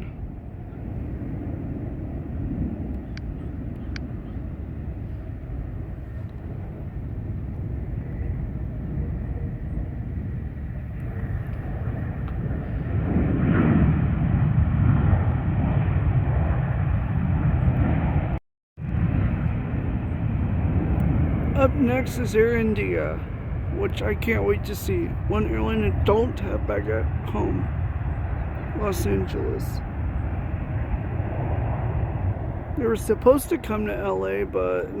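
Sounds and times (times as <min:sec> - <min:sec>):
jet airliner engines rumbling: 0:00.0 - 0:35.0.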